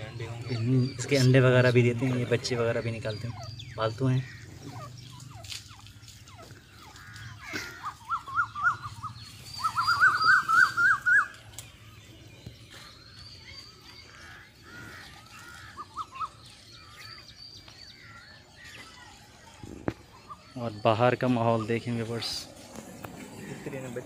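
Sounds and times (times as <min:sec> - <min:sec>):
partridges chattering calls: 0:00.0 - 0:24.0
small birds chirping: 0:00.0 - 0:24.0.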